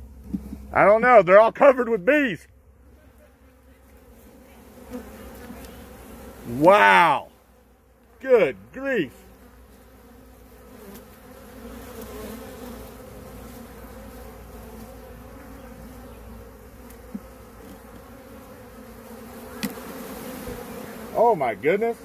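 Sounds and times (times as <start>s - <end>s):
honeybee colony buzzing: 0.0s - 22.0s.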